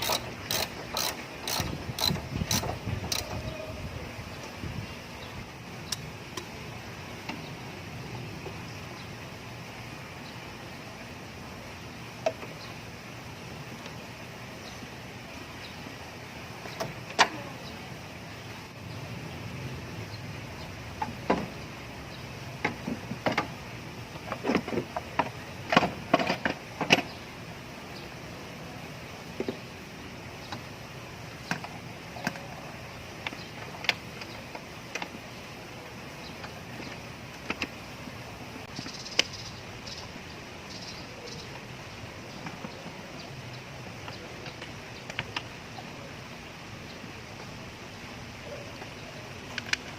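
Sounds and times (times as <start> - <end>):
steady background noise: 0.0 - 49.9
steady low hiss: 0.0 - 49.9.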